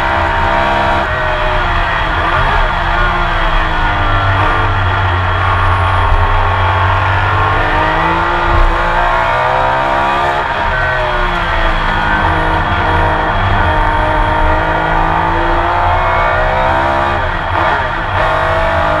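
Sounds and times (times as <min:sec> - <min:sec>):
racing engine revving: 0:00.0 - 0:19.0.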